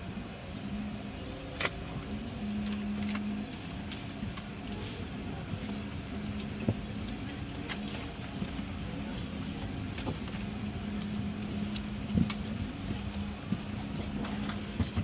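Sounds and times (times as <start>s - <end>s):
airliner cabin hum: 0.0s - 15.0s.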